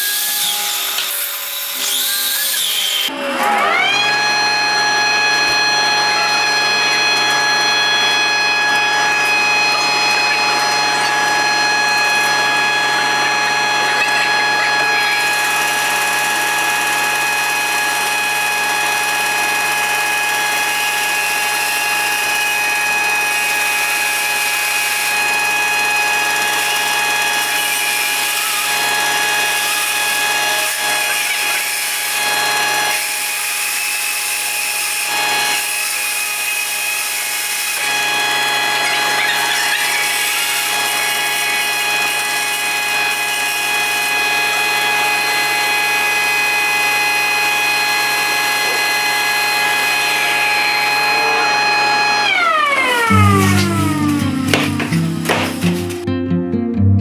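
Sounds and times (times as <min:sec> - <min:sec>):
bandsaw cutting wood: 0:00.0 - 0:56.0.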